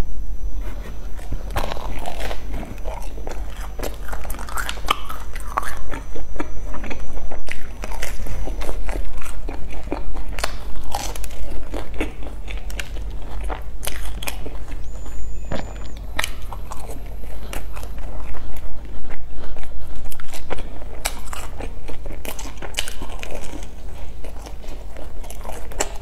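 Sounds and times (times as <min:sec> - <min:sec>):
crunchy chewing: 0:00.6 - 0:26.0.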